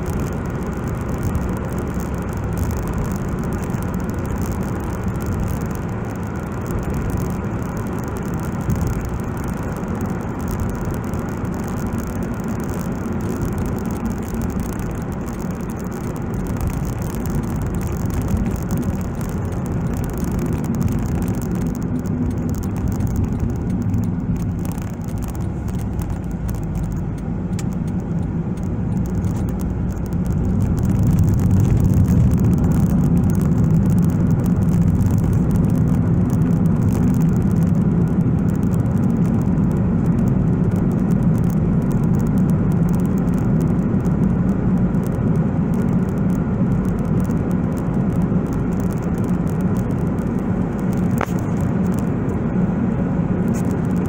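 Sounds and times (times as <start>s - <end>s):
car engine low hum: 0.0s - 54.0s
tyres on asphalt: 0.0s - 54.0s.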